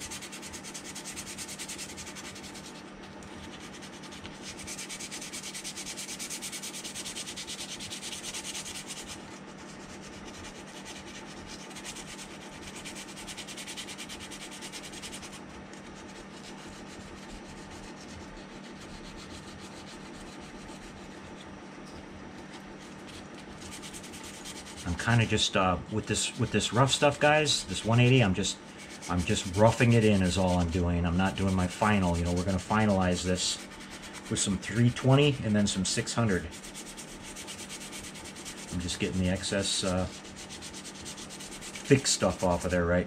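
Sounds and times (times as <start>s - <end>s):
sandpaper rubbing on plastic: 0.0s - 21.5s, 22.4s - 42.8s.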